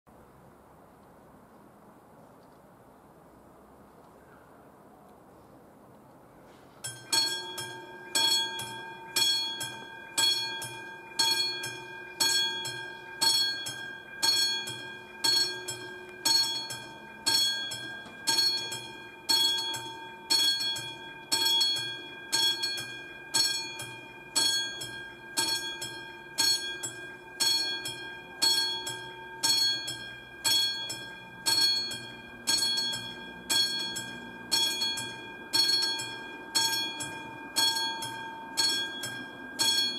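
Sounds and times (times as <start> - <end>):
level crossing warning bell: 6.8 - 39.9.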